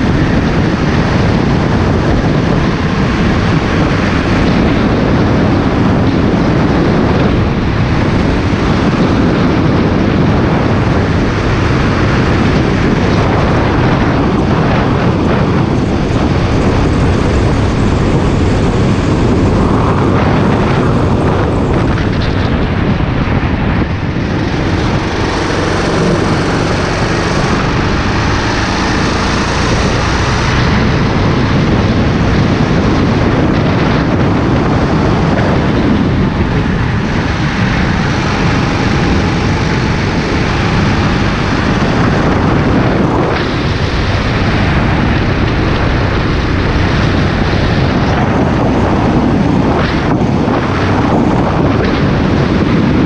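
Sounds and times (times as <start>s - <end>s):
go-kart engine running: 0.0s - 53.0s
wind noise on microphone: 0.0s - 53.0s.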